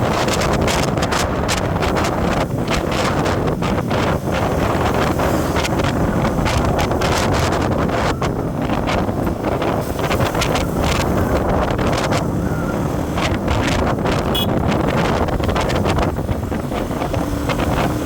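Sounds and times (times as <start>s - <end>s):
road and engine rumble: 0.0s - 18.0s
wind buffeting microphone: 0.0s - 18.0s.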